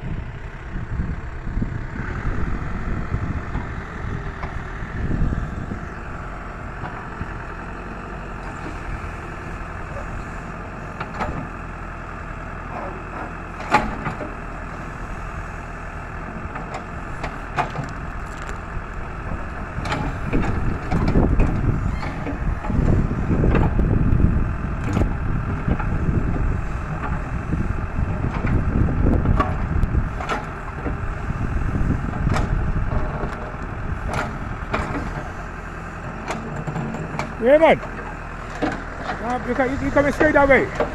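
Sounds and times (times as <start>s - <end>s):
backhoe diesel engine: 0.0s - 40.9s.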